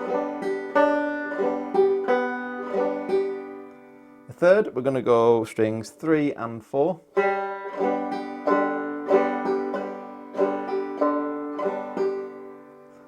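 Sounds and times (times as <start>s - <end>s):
banjo strumming: 0.0s - 13.0s.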